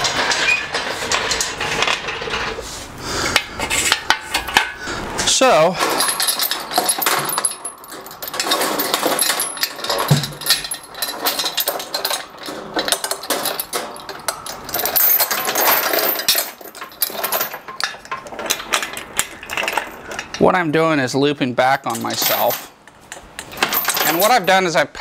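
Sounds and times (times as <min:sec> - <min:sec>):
steel chain rattling and clinking: 0:03.3 - 0:20.6, 0:21.7 - 0:24.8.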